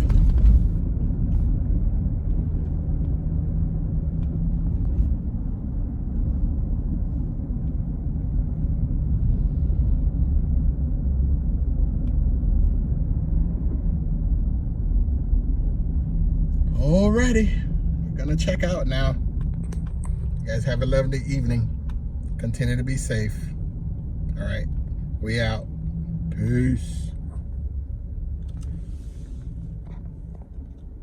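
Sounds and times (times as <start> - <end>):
road and engine rumble in cabin: 0.0 - 31.0.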